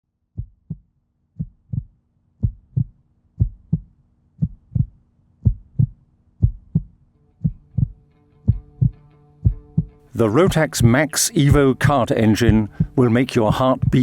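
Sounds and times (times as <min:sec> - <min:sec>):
heartbeat thumps: 0:00.4 - 0:14.0.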